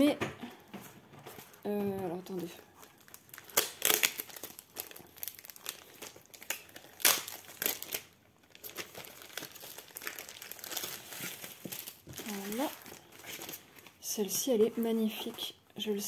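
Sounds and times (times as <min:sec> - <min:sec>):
plastic bag crinkling: 0:01.2 - 0:16.0.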